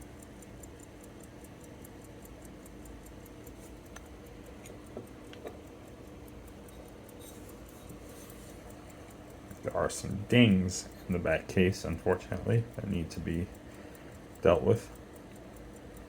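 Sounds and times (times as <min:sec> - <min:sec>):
faint handling clicks: 0:00.0 - 0:16.0
pocket watch ticking: 0:00.0 - 0:16.0.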